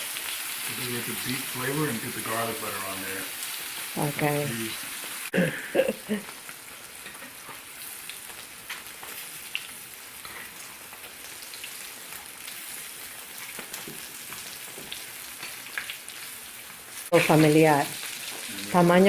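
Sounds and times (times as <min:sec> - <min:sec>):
steak sizzling in a skillet: 0:00.0 - 0:19.0.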